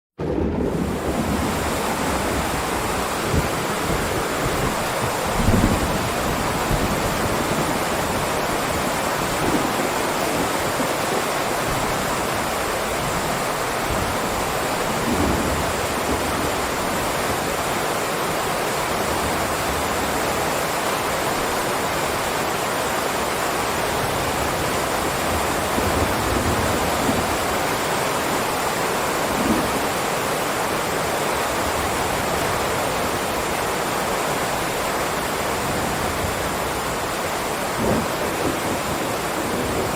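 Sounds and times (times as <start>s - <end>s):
heavy rain: 0.2s - 39.9s.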